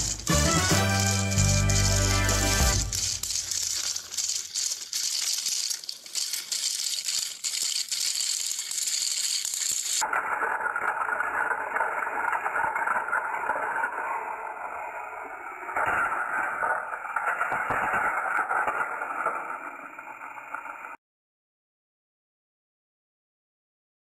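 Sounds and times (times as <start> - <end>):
toy train motors buzzing: 0.0 - 20.9.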